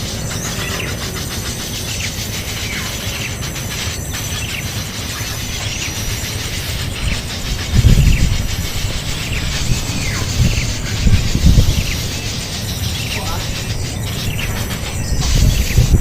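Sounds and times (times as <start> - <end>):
downward-sweeping bird calls: 0.0 - 16.0
low rumbling noise: 0.0 - 16.0.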